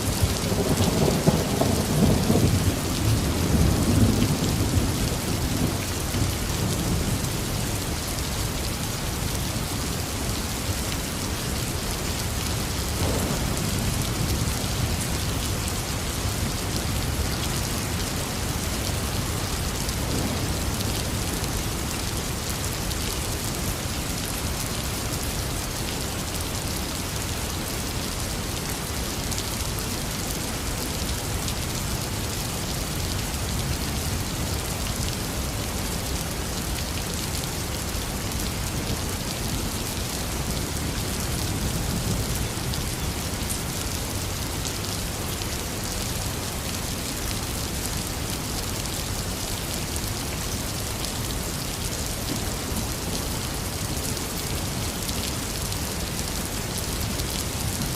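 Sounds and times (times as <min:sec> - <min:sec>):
heavy rain on hard surfaces: 0:00.0 - 0:57.9.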